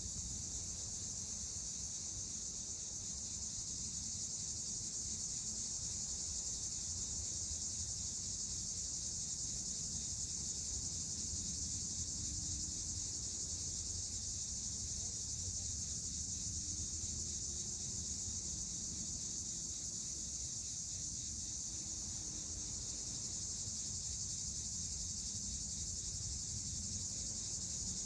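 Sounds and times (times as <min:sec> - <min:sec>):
cicadas buzzing: 0:04.4 - 0:28.0.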